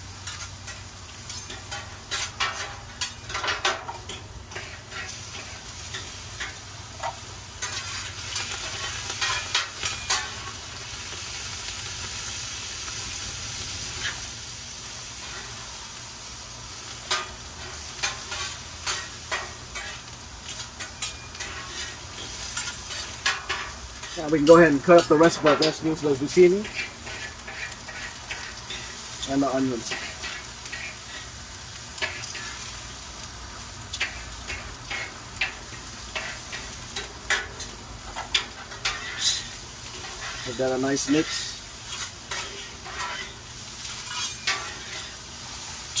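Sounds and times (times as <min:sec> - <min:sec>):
vegetables sizzling on a griddle: 0:00.0 - 0:46.0.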